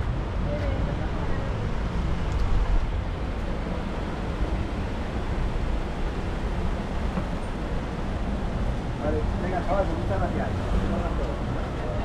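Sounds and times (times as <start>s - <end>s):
rumble of passing traffic: 0.0s - 12.0s.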